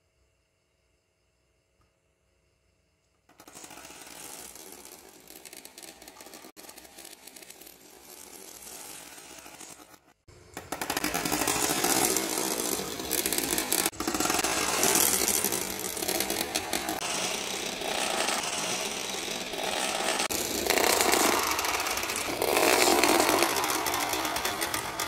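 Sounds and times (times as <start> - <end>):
marbles rattling through plastic tubing: 3.3 - 10.0, 10.6 - 25.0.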